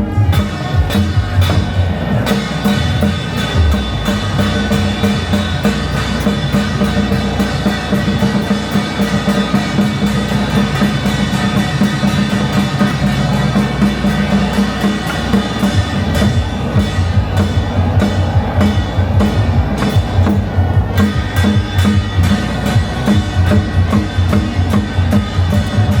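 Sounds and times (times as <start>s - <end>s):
drums playing fast beat: 0.0s - 26.0s
gongs and cymbals ringing: 0.0s - 26.0s.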